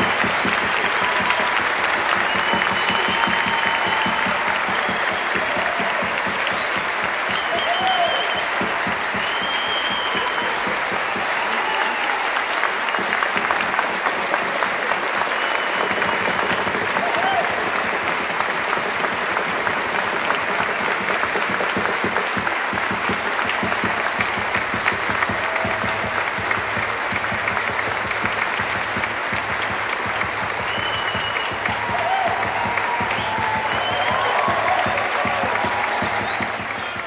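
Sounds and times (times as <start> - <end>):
short calls from audience: 0.0 - 19.4, 22.0 - 37.0
audience applauding: 0.0 - 37.0.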